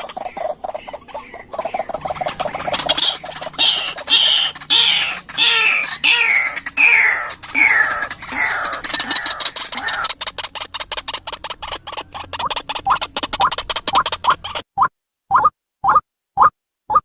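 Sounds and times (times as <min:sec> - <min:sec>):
waterhen calling: 0:00.0 - 0:14.6.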